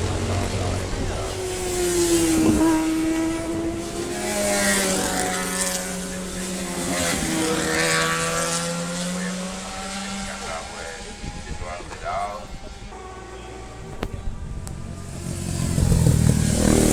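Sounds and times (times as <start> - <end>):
racing motorcycles passing: 0.0 - 16.9.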